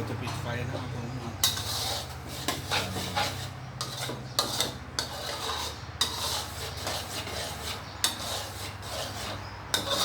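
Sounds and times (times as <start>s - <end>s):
utensil scraping a pot: 0.6s - 10.0s.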